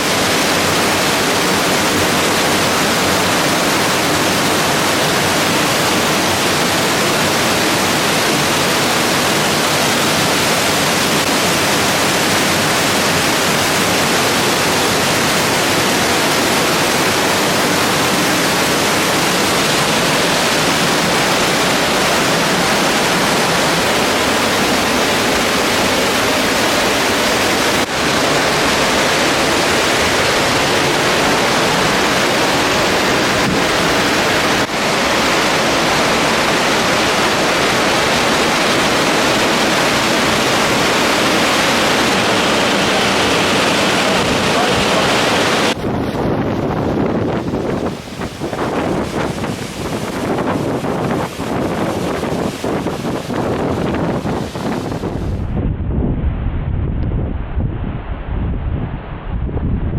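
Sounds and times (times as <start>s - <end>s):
waterfall rushing: 0.0s - 55.4s.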